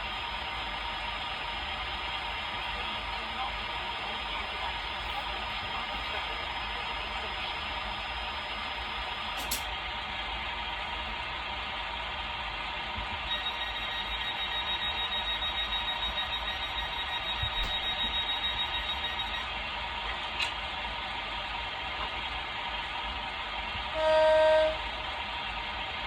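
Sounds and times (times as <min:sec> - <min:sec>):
model train motor hum and whine: 0:00.0 - 0:26.0.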